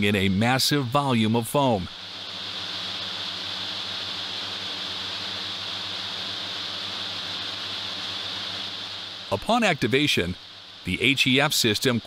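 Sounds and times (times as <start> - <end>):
faint low hum: 0.0 - 12.0
foam generators hissing: 0.0 - 12.0.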